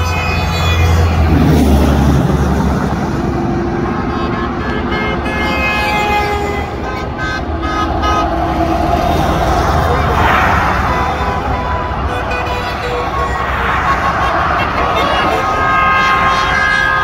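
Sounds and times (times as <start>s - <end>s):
vehicle horns honking: 0.0s - 2.3s, 3.6s - 17.0s
highway traffic rumble: 0.0s - 17.0s.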